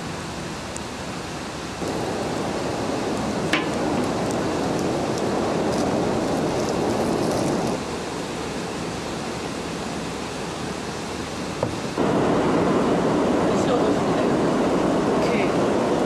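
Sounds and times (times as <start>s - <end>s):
outdoor rushing hiss: 0.0s - 16.0s.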